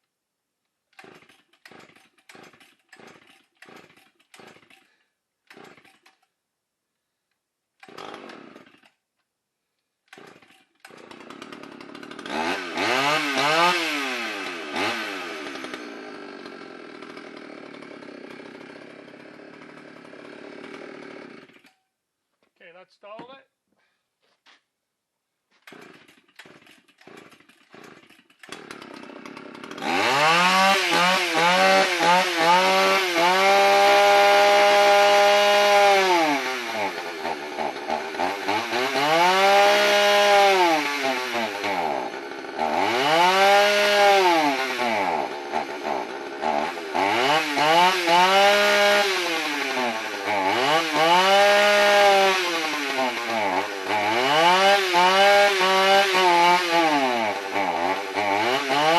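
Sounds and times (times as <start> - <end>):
chainsaw engine revving: 0.9 - 6.3, 7.8 - 9.0, 10.1 - 21.8, 25.5 - 58.9
recoil starter tugs: 0.9 - 6.4, 7.8 - 9.0, 9.8 - 21.8, 25.5 - 58.9.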